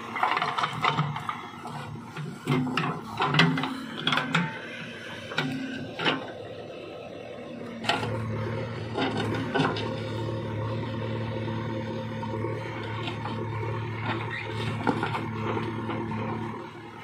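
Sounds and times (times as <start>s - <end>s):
diesel engine and hydraulics: 0.0s - 17.0s.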